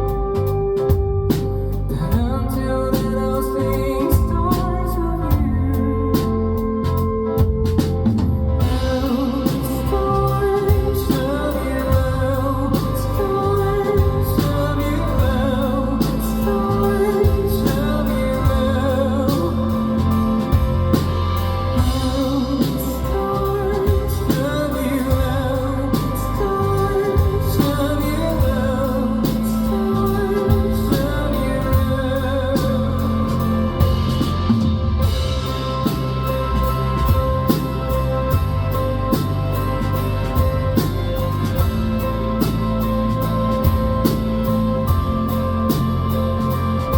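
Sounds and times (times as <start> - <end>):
live band playing pop song: 0.0 - 46.9
person singing: 1.3 - 7.5, 8.2 - 46.9.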